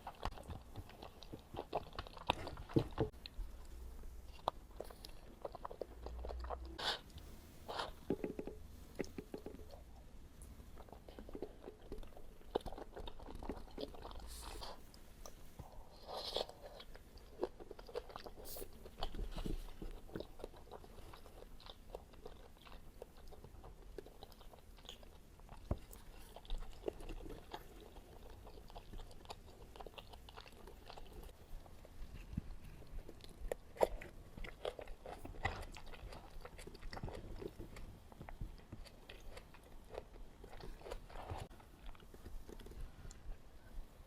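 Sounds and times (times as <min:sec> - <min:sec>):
person chewing crunchy food: 0:00.0 - 0:10.1, 0:10.7 - 0:43.3.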